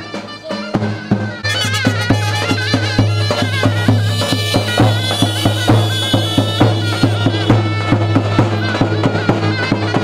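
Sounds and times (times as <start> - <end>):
drum beats: 0.0 - 10.0
reedy wind instrument melody: 0.0 - 10.0.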